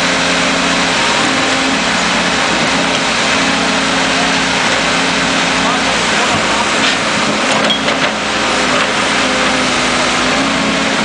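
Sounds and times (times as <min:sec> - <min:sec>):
backhoe engine running: 0:00.0 - 0:11.0.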